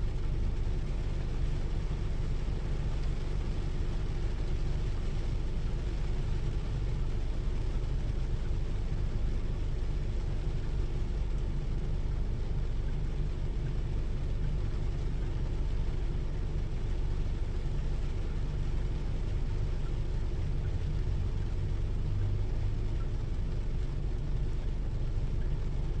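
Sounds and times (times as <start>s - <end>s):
constant low rumble: 0.0s - 26.0s
steady rainfall: 0.0s - 26.0s.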